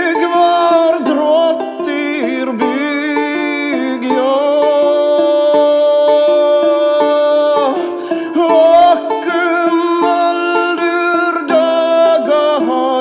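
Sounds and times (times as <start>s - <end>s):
plucked notes rhythm: 0.0s - 13.0s
sliding held melody: 0.0s - 13.0s.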